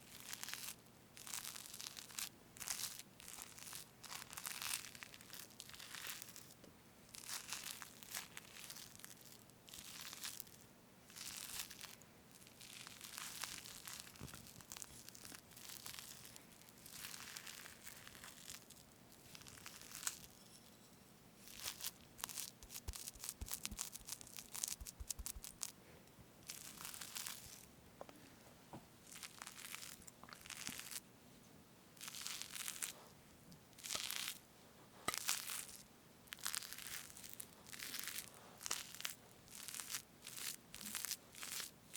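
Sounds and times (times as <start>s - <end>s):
soft wet cream strokes: 0.0s - 28.4s, 29.0s - 31.1s, 32.0s - 41.9s.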